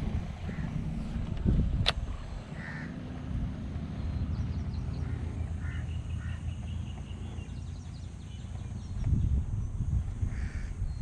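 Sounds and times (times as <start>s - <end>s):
birds calling: 0.0s - 11.0s
steady low rumble: 0.0s - 11.0s.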